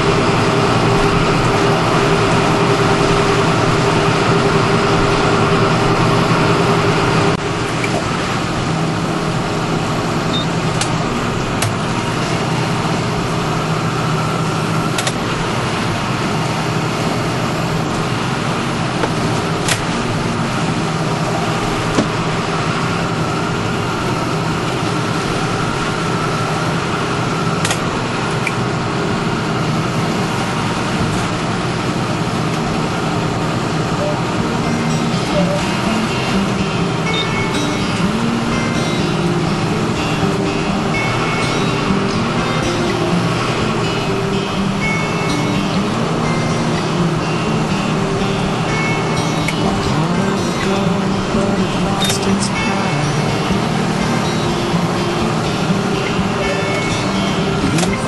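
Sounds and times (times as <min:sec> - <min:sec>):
tractor diesel engine drone: 0:00.0 - 0:58.0.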